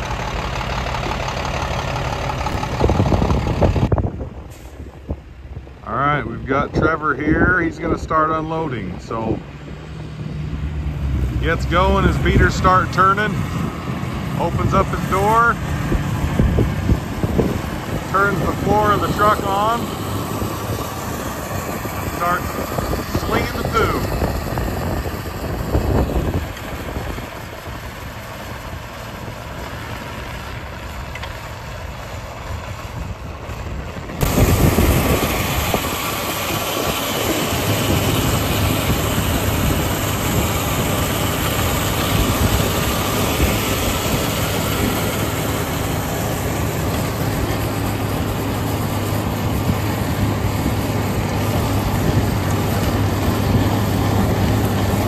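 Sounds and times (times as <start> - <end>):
manure spreader truck running: 0.0 - 55.0.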